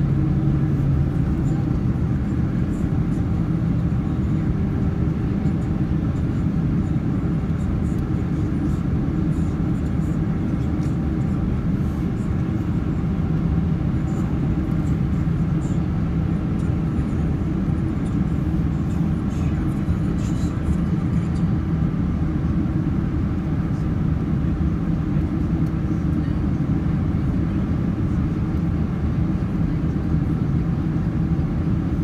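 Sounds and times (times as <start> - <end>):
airliner cabin rumble: 0.0 - 32.0.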